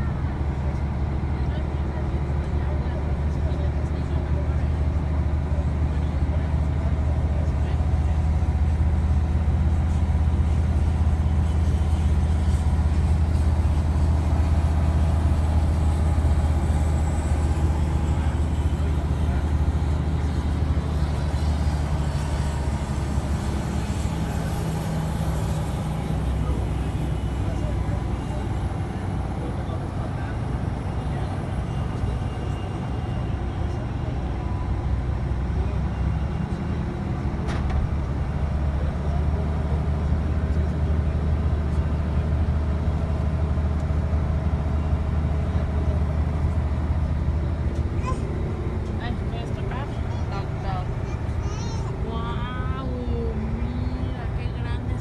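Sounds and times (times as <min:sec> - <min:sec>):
engine rumble: 0:00.0 - 0:55.0.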